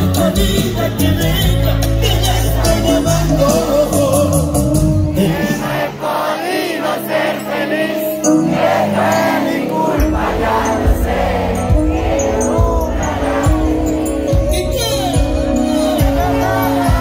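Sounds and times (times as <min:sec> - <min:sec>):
live band music: 0:00.0 - 0:06.0, 0:06.8 - 0:17.0
voices singing: 0:00.0 - 0:17.0.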